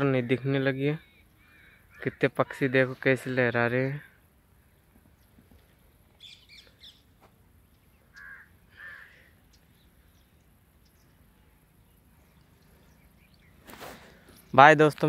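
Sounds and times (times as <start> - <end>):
faint bird calls: 1.0 - 14.5.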